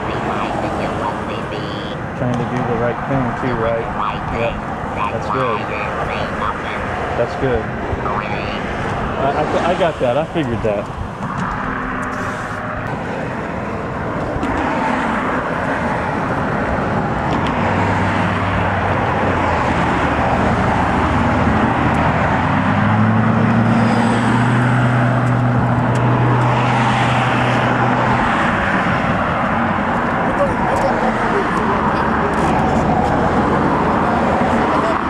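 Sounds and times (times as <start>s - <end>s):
highway traffic passing: 0.0s - 35.0s
low engine drone: 0.0s - 35.0s.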